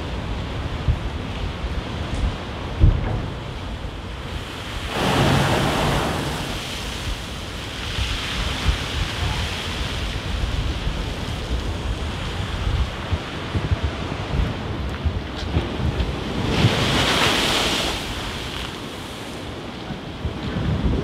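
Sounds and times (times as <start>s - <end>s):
waves crashing against sea wall: 0.0s - 21.0s
wind buffeting microphone: 0.0s - 21.0s.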